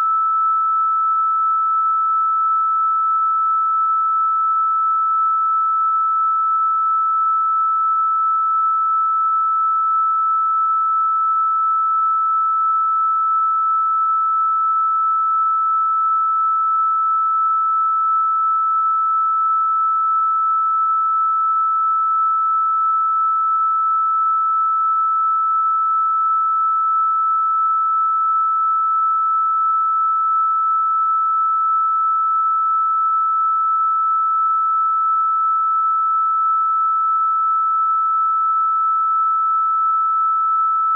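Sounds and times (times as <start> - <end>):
high electronic sine tone: 0.0 - 40.9.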